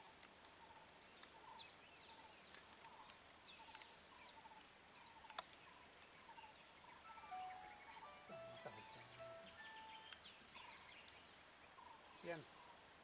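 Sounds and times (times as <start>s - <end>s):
bird chirps: 0.6s - 12.8s.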